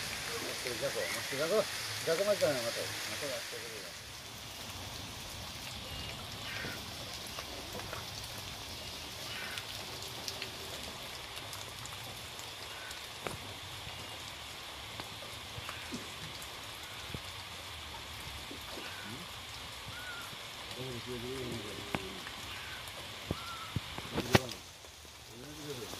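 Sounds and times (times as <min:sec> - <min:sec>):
heavy rain falling: 0:00.0 - 0:25.9
raindrops ticking sharply: 0:00.0 - 0:25.9.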